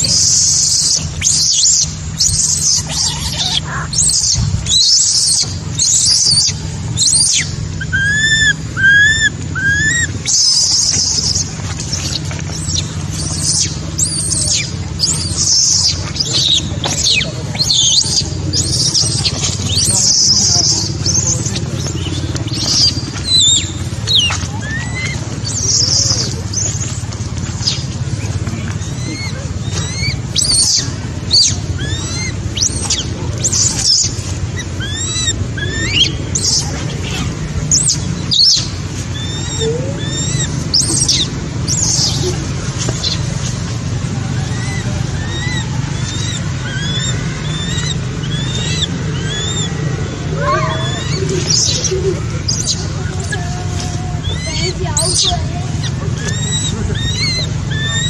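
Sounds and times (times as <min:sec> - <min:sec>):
baby monkey squealing: 0:00.0 - 0:27.0, 0:28.8 - 0:43.2, 0:44.4 - 0:58.0
steady low hum: 0:00.0 - 0:58.0.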